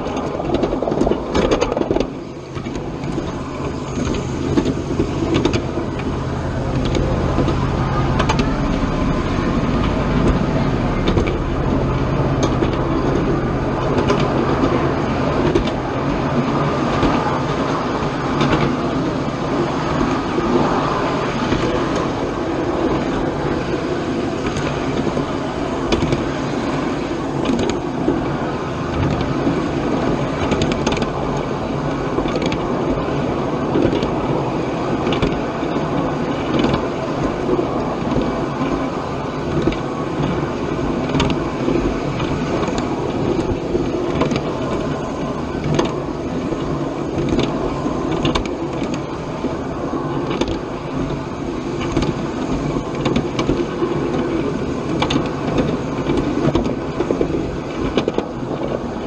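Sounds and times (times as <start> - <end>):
miniature steam train rumbling: 0.0 - 59.0
wheels clicking on rails: 0.0 - 59.0.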